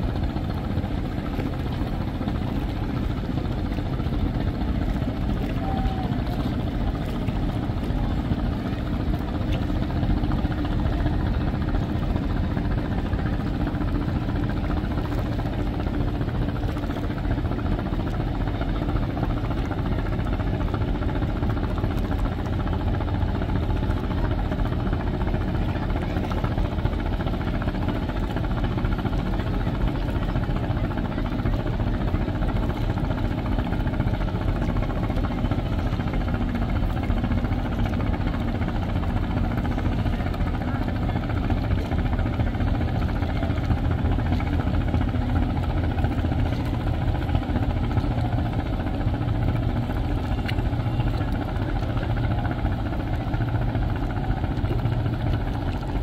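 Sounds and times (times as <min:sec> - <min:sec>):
boat diesel engines humming: 0:00.0 - 0:56.0.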